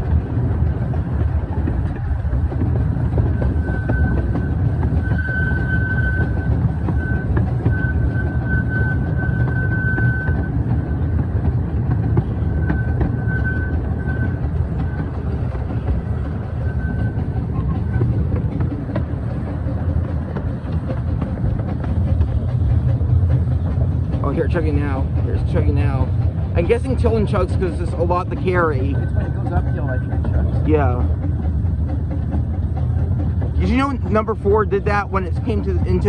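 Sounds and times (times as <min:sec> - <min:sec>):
miniature train wheels rumbling: 0:00.0 - 0:36.0.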